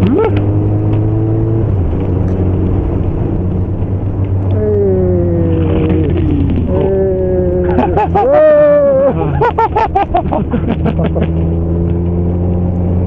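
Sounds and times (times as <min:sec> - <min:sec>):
wind rushing over microphone: 0:00.0 - 0:10.8.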